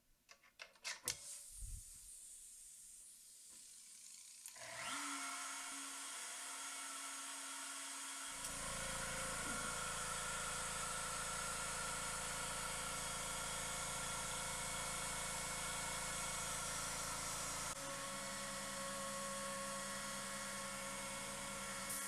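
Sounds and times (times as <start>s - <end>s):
power tool motor whine: 3.4s - 22.0s.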